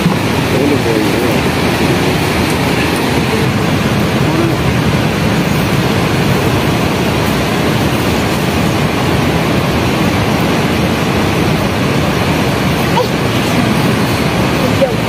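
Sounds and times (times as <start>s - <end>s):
loud low rushing noise: 0.0s - 15.0s.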